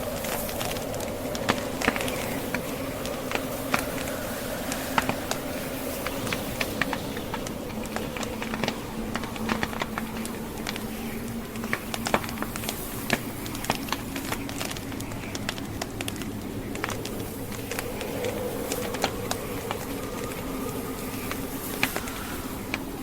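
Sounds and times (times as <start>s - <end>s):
blizzard wind rushing: 0.0s - 23.0s
wood fire crackling: 0.0s - 23.0s.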